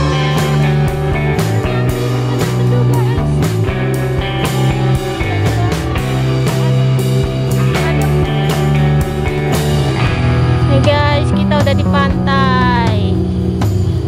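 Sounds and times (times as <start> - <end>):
rock music with guitar and drums: 0.0 - 14.0.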